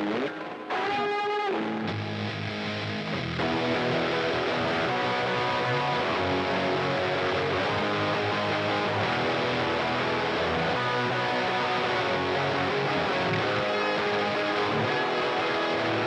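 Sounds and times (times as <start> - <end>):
guitar music: 0.0 - 16.0.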